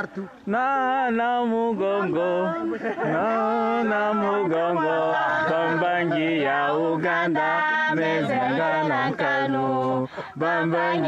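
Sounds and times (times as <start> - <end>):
people singing a chant: 0.0 - 11.0.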